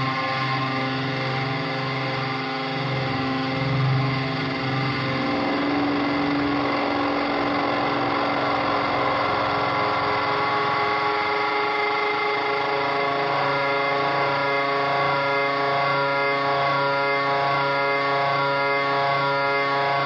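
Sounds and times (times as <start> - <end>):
droning sustained tones: 0.0 - 20.0.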